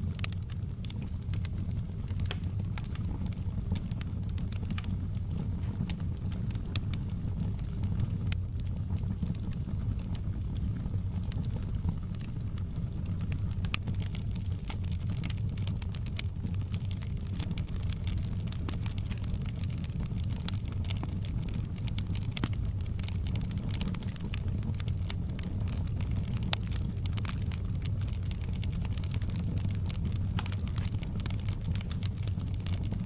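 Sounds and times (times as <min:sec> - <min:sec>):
fire crackling: 0:00.0 - 0:33.0
low rumble of flames: 0:00.0 - 0:33.0.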